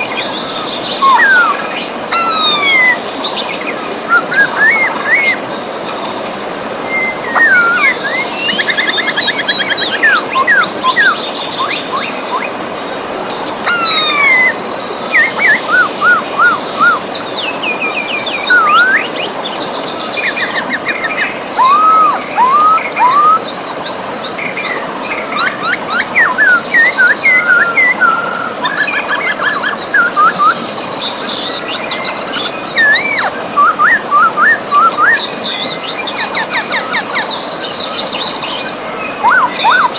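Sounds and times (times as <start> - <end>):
river rushing: 0.0 - 39.9
songbirds singing and calling: 0.0 - 39.9.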